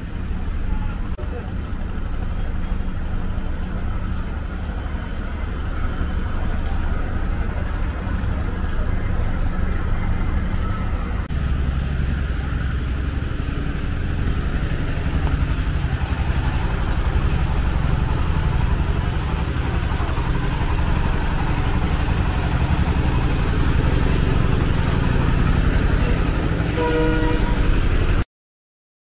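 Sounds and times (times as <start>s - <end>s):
engine idling: 0.0s - 28.2s.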